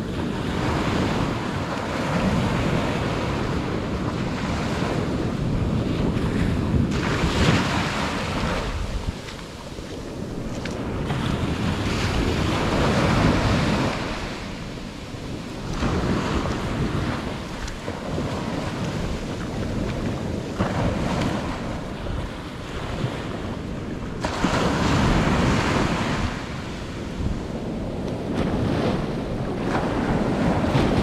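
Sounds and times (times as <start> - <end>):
surf breaking on beach: 0.0 - 31.0
wind rumbling on microphone: 0.0 - 31.0.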